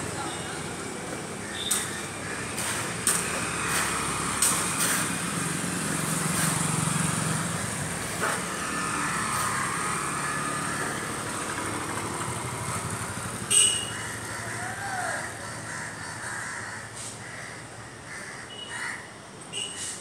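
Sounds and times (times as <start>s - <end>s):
motorcycle passing: 0.0s - 18.2s
street background noise: 0.0s - 20.0s.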